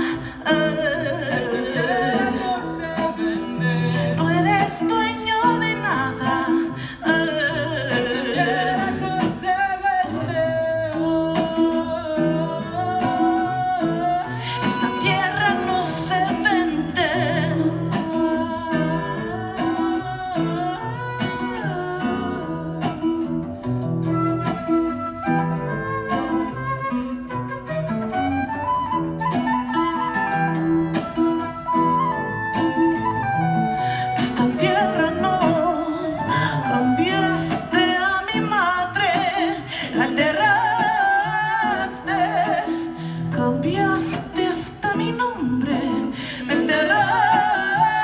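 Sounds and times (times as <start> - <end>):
plucked guitar: 0.0 - 48.0
wordless wailing vocal melody: 0.0 - 48.0.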